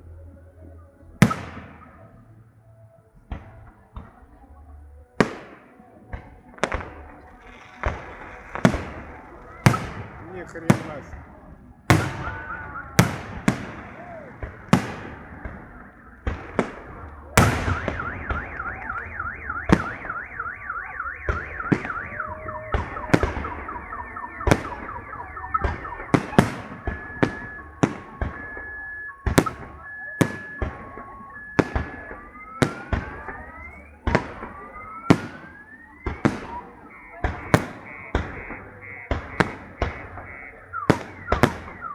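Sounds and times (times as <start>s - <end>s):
car alarm wailing and beeping: 0.0s - 41.9s
fireworks bursts banging: 1.2s - 2.3s, 5.2s - 41.9s.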